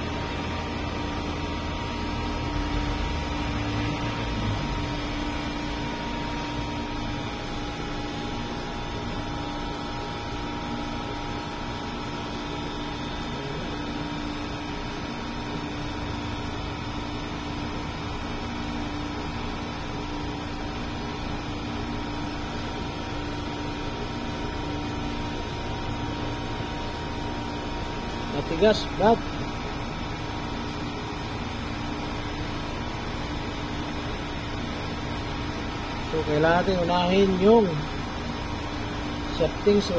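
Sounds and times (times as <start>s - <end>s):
machine hum with constant tones: 0.0s - 39.9s.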